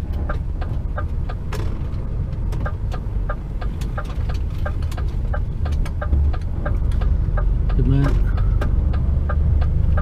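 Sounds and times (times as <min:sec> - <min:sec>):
diesel engine rumble: 0:00.0 - 0:10.0
turn signal ticking: 0:00.0 - 0:10.0.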